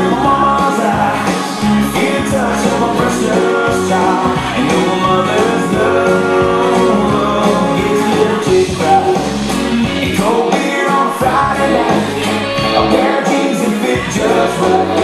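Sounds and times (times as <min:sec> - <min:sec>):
song with singing over speakers: 0:00.0 - 0:15.0.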